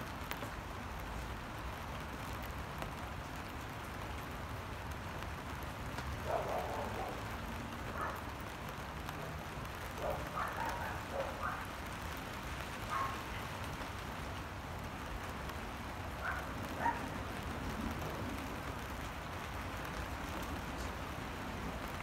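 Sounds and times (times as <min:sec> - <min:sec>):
rain on wet pavement: 0:00.0 - 0:22.0.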